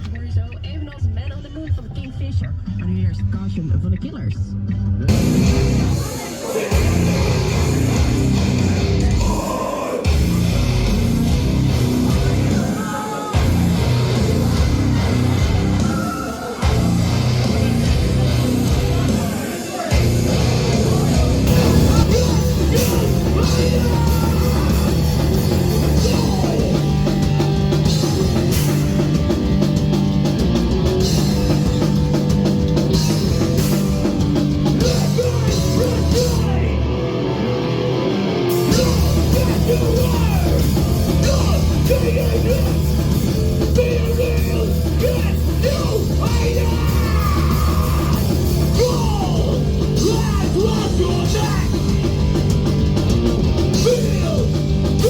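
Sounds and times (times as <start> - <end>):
loud rock music: 0.0 - 55.0.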